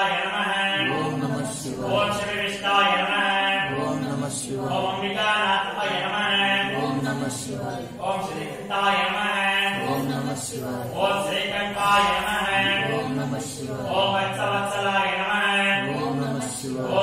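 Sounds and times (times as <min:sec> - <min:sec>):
mantras chanted: 0:00.0 - 0:17.0.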